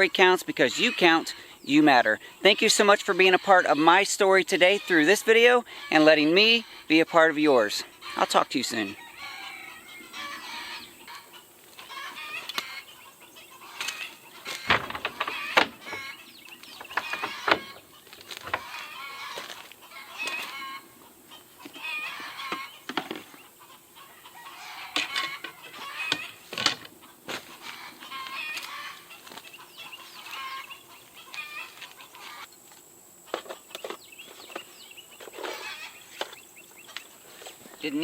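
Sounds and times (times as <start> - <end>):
chickens clucking: 0.0 - 38.0.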